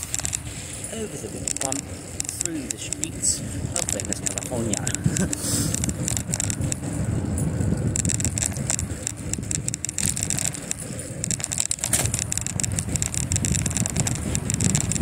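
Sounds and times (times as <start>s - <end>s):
bicycle tyres road rumble: 0.0s - 15.0s
sharp rattling clicks: 0.0s - 15.0s
wind on microphone: 0.0s - 15.0s.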